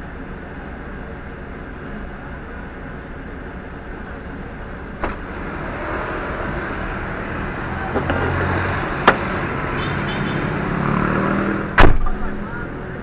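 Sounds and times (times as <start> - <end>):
diesel engine idling: 0.0 - 10.4
road traffic: 0.0 - 13.0.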